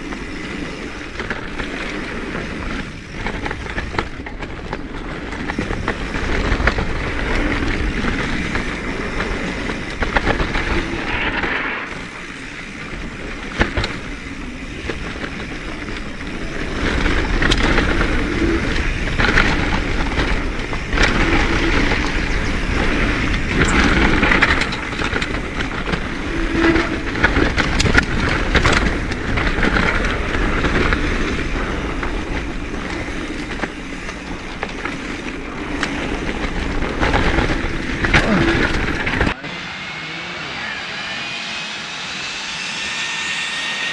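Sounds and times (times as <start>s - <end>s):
bike frame and chain rattling: 0.0s - 11.3s, 11.9s - 39.4s
clicks and knocks over bumps: 0.0s - 11.6s, 12.8s - 39.4s
tyres on dirt and gravel: 0.0s - 39.5s.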